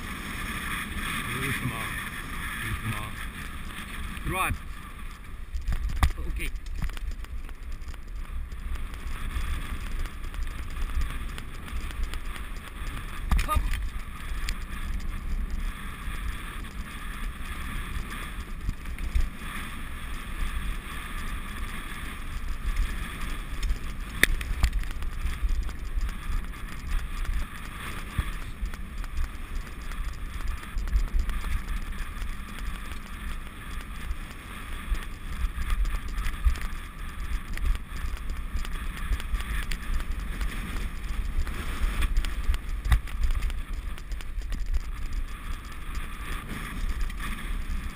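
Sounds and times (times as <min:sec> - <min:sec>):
bike tyres rumbling on dirt: 0:00.0 - 0:47.9
wind on microphone: 0:00.0 - 0:47.9.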